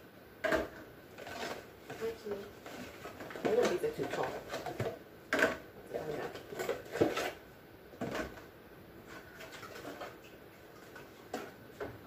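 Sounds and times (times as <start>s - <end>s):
items scraping and shuffling: 0.4s - 12.0s.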